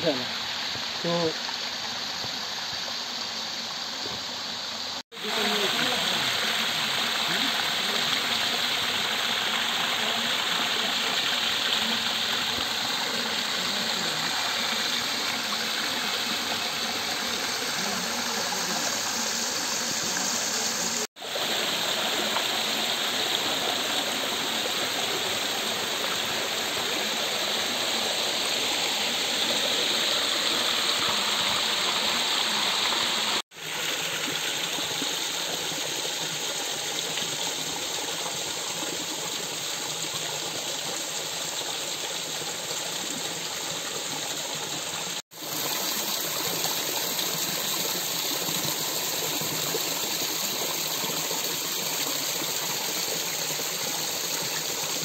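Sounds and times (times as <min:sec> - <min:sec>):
water rushing over rocks: 0:05.1 - 0:55.0.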